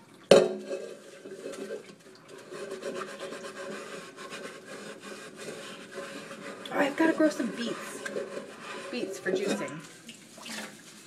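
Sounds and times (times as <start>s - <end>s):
scrubbing dishes by hand: 0.0s - 11.0s.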